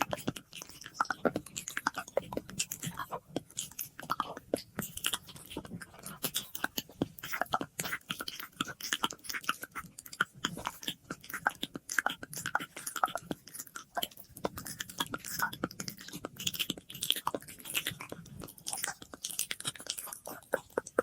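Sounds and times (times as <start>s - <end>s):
wet mouth clicks and pops: 0.0s - 21.0s.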